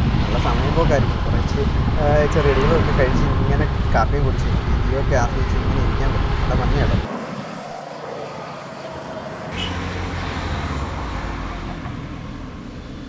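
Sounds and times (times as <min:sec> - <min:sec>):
passing cars and motorbikes: 0:00.0 - 0:13.0.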